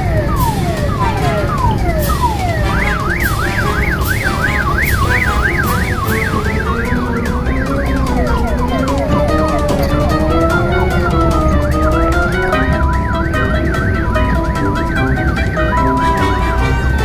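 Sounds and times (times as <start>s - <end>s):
electronic siren: 0.0s - 17.0s
steady low rumble: 0.0s - 17.0s.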